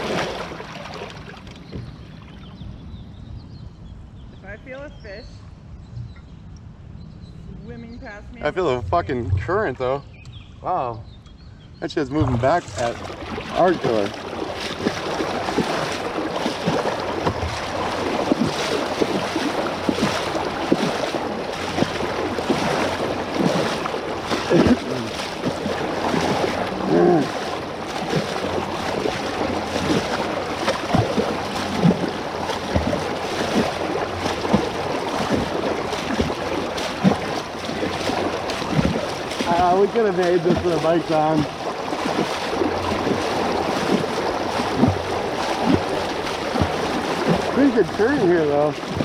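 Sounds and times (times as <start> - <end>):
floodwater sloshing: 0.0 - 2.6, 8.0 - 10.8, 11.9 - 49.0
short water splashes: 0.0 - 2.6, 11.8 - 49.0.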